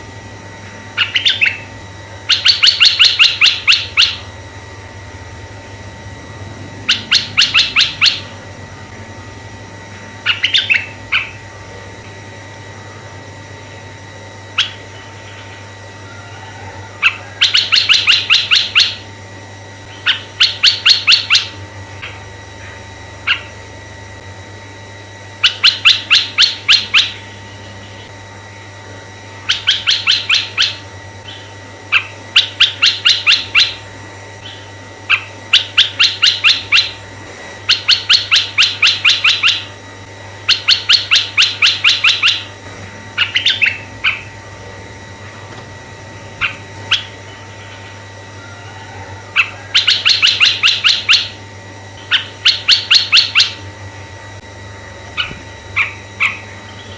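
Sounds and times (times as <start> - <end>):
bird song rapid repeated notes: 0.0 - 8.8, 10.0 - 11.6, 14.1 - 16.0, 17.0 - 19.2, 19.8 - 24.0, 25.3 - 28.2, 29.3 - 45.0, 46.1 - 48.4, 49.2 - 54.1, 54.7 - 56.9
faint steady hum: 0.0 - 56.9.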